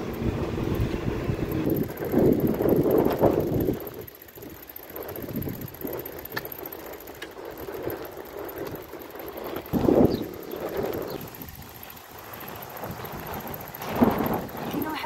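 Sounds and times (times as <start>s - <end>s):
bicycle rolling on flat tyre: 0.0s - 15.0s
wind buffeting microphone: 0.0s - 15.0s.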